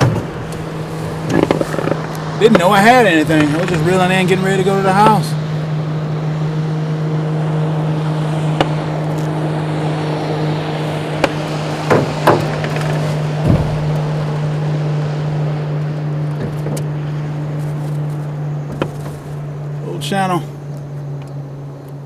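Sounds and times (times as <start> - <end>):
boat motor humming: 0.0 - 22.0
knocks and thumps in boat: 0.0 - 22.0.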